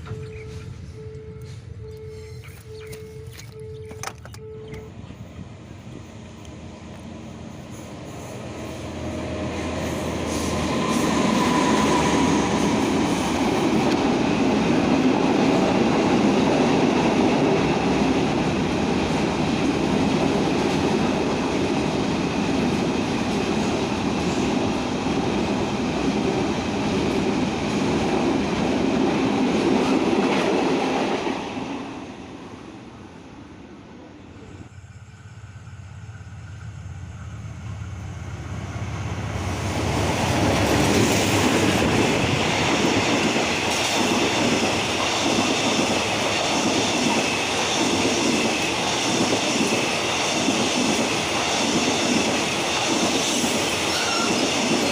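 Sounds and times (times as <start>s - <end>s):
train rumbling and rattling past: 0.0s - 54.9s.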